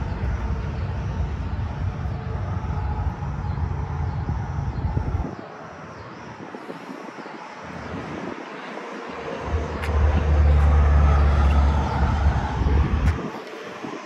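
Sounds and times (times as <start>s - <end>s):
vehicle passing on highway: 0.0s - 14.0s
wind buffeting microphone: 0.0s - 14.0s.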